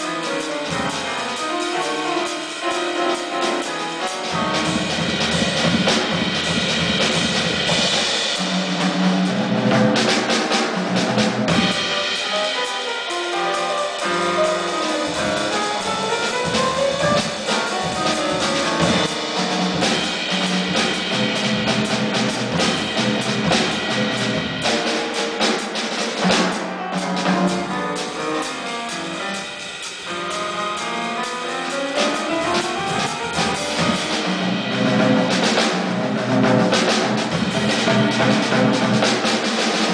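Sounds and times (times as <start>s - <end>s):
live jazz music: 0.0s - 39.9s.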